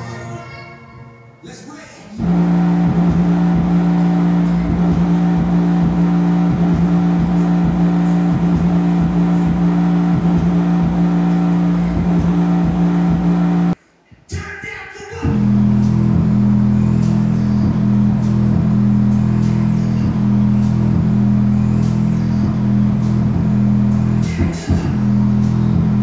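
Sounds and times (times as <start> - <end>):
loud low bass drone: 2.2 - 13.8, 15.3 - 26.0
uneven low pulsing: 2.2 - 13.8, 15.3 - 26.0.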